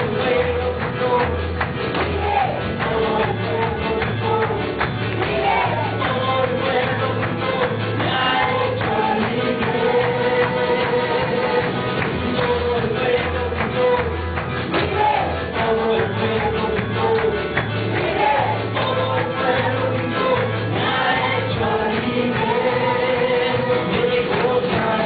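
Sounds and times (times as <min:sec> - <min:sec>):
group of voices singing: 0:00.0 - 0:25.0
pulsing bass line: 0:00.0 - 0:25.0.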